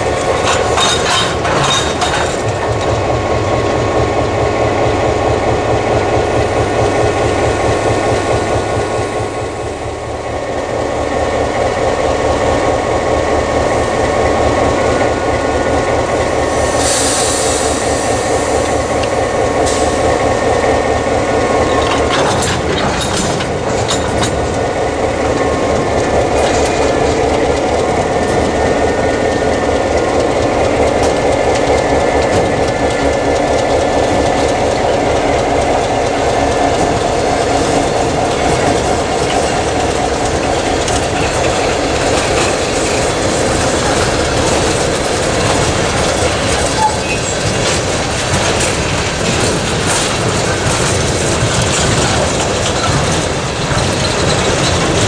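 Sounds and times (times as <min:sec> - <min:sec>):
freight car rolling: 0:00.0 - 0:10.1, 0:11.5 - 0:55.0
diesel locomotive running: 0:00.0 - 0:55.0
steel wheels clicking on rails: 0:00.0 - 0:55.0.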